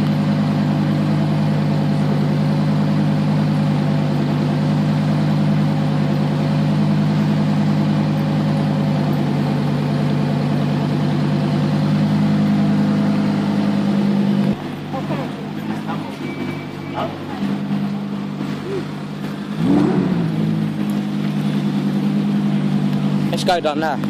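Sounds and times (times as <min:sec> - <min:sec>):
sports car engine idling: 0:00.0 - 0:24.0.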